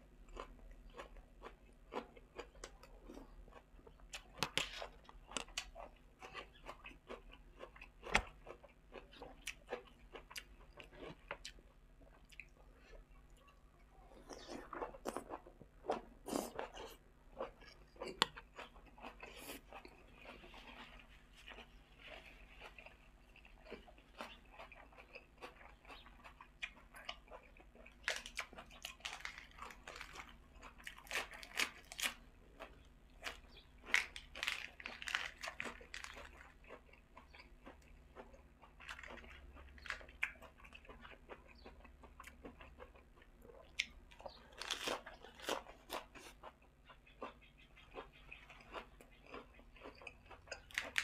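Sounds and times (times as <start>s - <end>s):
chewing and crunching: 0.0s - 51.0s.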